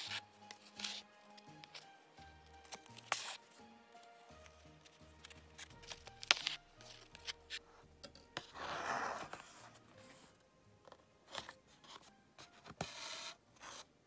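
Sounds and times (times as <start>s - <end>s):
quiet background music: 0.0s - 14.0s.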